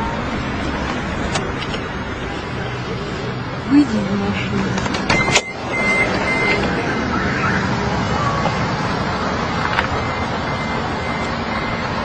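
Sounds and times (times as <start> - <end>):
distant road traffic rushing: 0.0 - 12.0.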